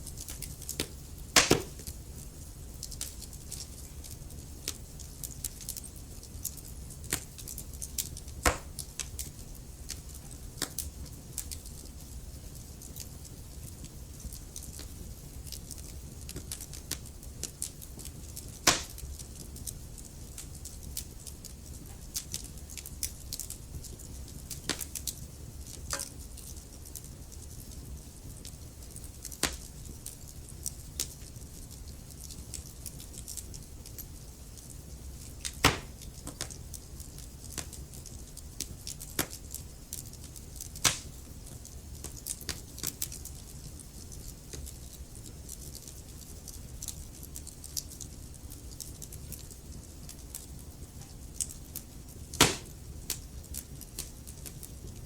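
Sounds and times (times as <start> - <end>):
fire pops and snaps: 0.0 - 55.0
low rumble of flames: 0.0 - 55.0.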